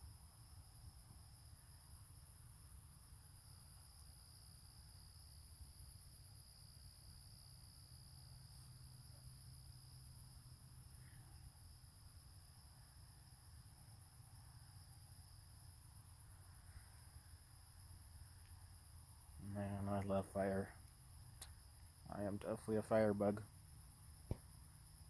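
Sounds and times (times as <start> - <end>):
crickets and insects trilling: 0.0 - 25.0.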